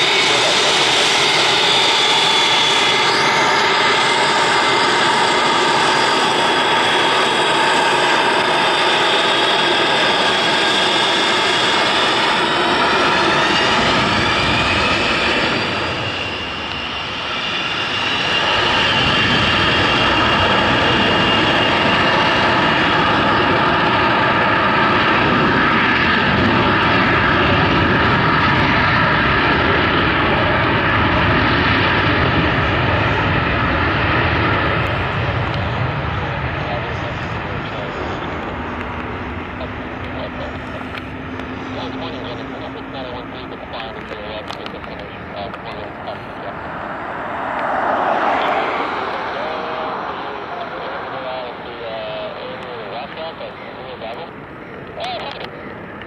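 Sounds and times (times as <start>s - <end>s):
jet engines whining and rumbling: 0.0s - 56.0s.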